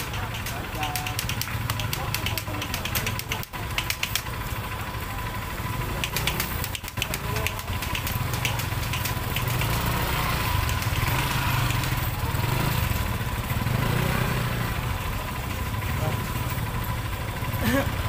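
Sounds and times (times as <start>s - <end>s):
motorcycle engine rumbling: 0.0s - 18.0s.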